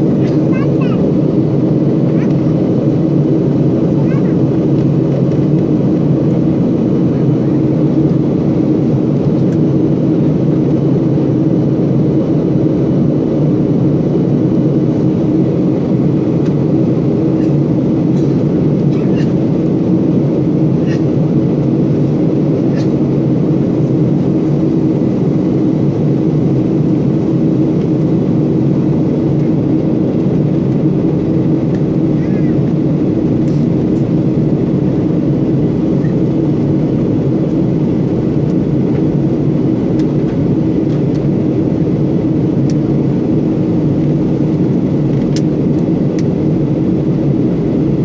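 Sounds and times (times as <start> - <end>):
airliner cabin drone: 0.0 - 48.0.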